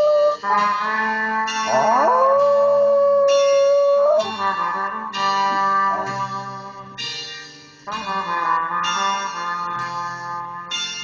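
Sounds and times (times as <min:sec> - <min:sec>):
trumpets playing long notes: 0:00.0 - 0:07.0, 0:07.9 - 0:11.0.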